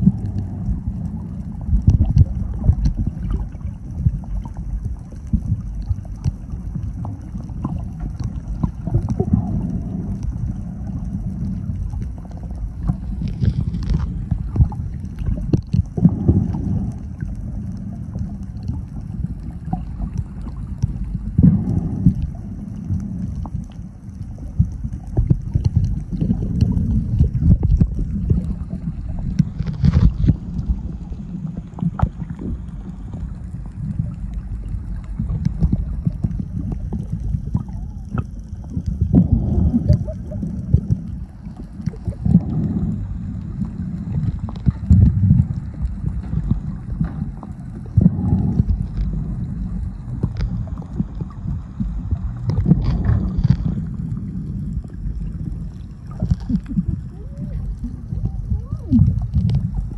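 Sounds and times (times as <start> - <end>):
underwater churning rumble: 0.0 - 59.9.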